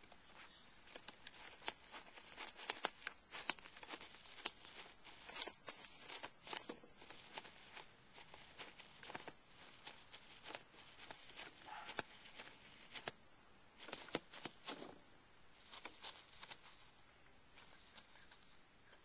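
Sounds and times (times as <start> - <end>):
tissues rustling and crackling: 0.0 - 19.0.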